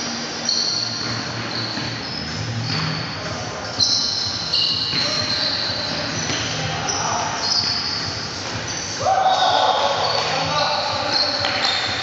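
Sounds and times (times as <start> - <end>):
shoes squeaking on gym floor: 0.0 - 12.0.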